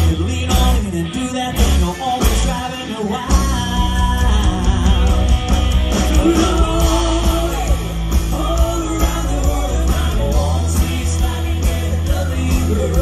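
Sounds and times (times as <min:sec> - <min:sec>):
lead vocals singing: 0:00.0 - 0:13.0
live rock band playing: 0:00.0 - 0:13.0.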